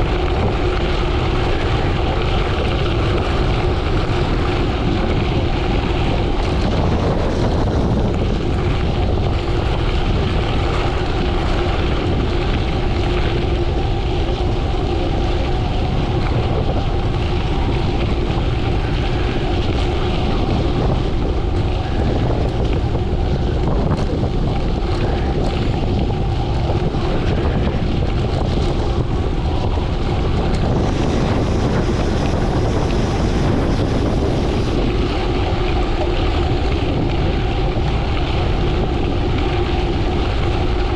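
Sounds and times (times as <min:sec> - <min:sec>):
bike tyres rolling over gravel: 0:00.0 - 0:40.9
wind rushing over microphone: 0:00.0 - 0:40.9.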